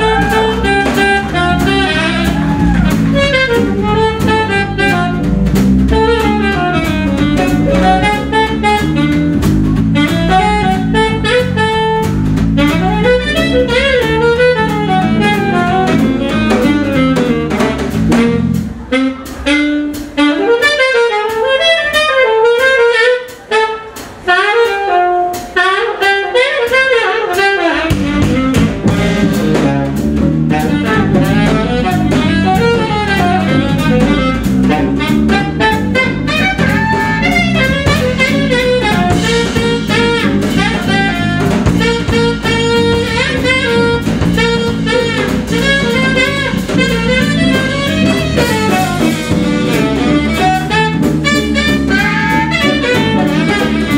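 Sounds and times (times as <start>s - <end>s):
bass: 0.0s - 53.9s
drums: 0.0s - 53.9s
saxophone playing jazz: 0.0s - 53.9s.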